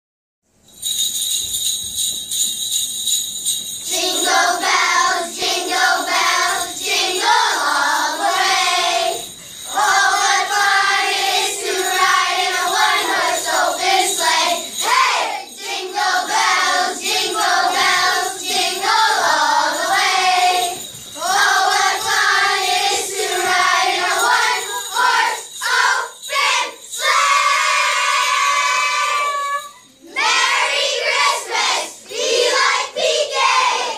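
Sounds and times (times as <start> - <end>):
jingle bells shaking: 0.6 - 32.1
children singing a carol: 3.9 - 33.9.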